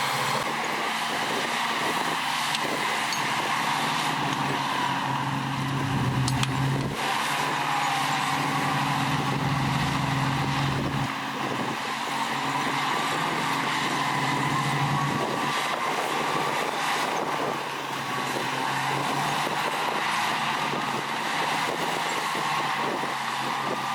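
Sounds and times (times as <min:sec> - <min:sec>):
diesel machinery engine: 0:00.0 - 0:23.9
high whine: 0:00.0 - 0:23.9.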